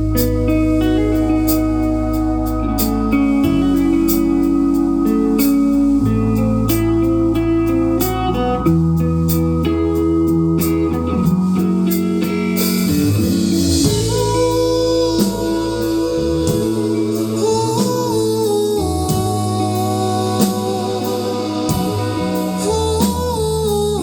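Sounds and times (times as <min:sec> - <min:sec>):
drum kit: 0:00.0 - 0:24.0
electric guitar: 0:00.0 - 0:24.0
held gliding melody line: 0:00.0 - 0:24.0.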